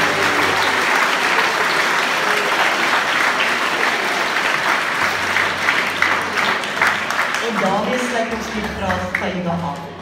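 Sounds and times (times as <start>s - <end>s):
children applauding: 0.0s - 9.1s.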